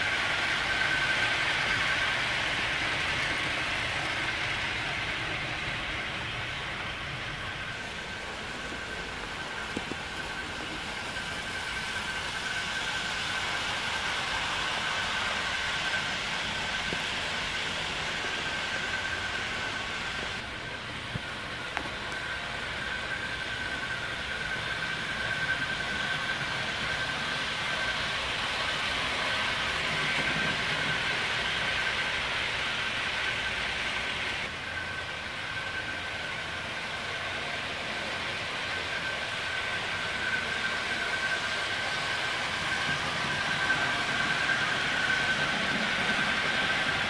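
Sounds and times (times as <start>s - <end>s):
high-pitched whine: 0.0s - 47.0s
model train wheels rumbling: 0.0s - 47.0s.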